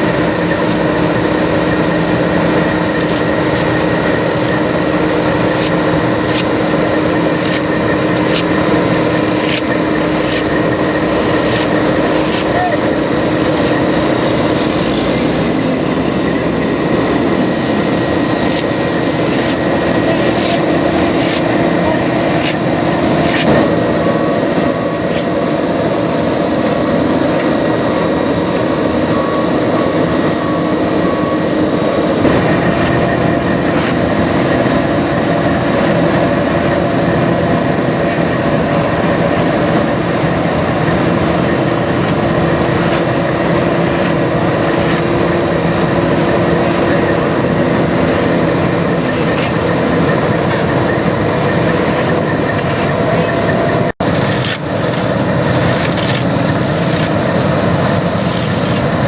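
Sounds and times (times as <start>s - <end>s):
paving machinery humming: 0.0s - 59.0s.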